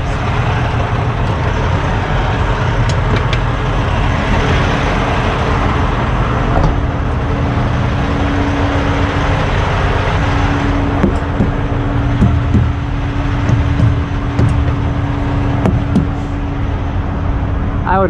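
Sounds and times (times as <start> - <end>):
diesel truck engine idling: 0.0 - 18.0
steady hum: 0.0 - 18.0.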